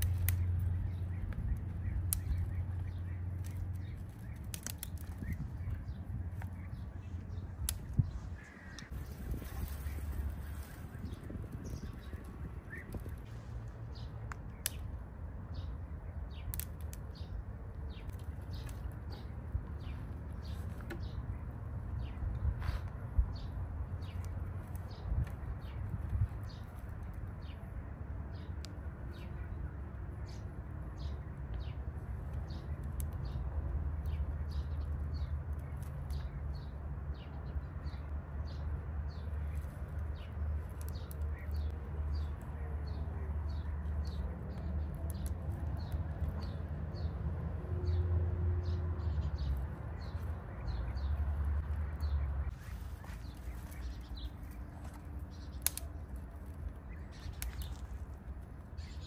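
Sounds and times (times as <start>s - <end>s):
birds chirping: 0.0s - 59.0s
steady low rumble: 0.0s - 59.0s.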